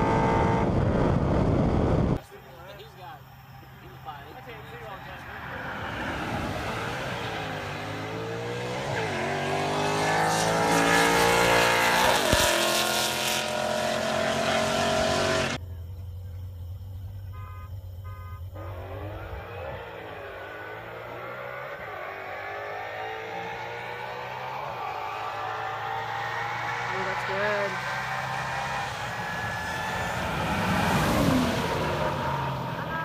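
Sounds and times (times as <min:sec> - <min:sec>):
car engines accelerating: 0:00.0 - 0:33.0
distant engines accelerating: 0:00.0 - 0:33.0.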